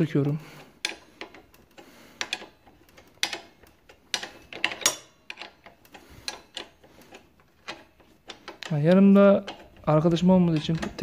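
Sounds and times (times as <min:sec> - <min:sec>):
wrench clicking on bolts: 0:00.0 - 0:11.0.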